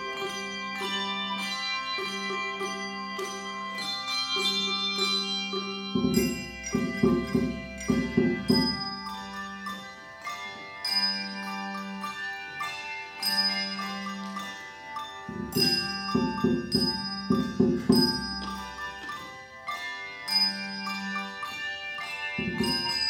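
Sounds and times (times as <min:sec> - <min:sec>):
handbells playing chords: 0:00.0 - 0:23.0.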